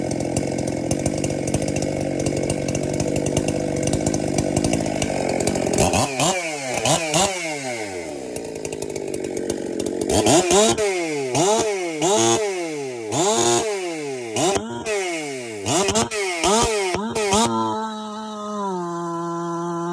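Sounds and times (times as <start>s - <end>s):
chainsaw running and revving: 0.0s - 19.9s.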